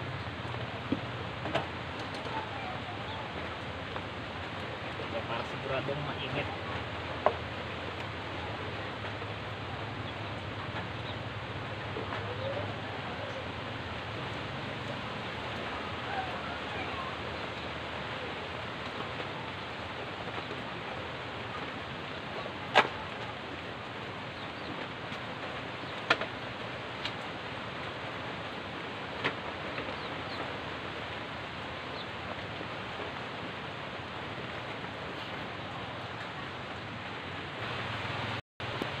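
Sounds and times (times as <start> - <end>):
rain hissing: 0.0 - 39.0.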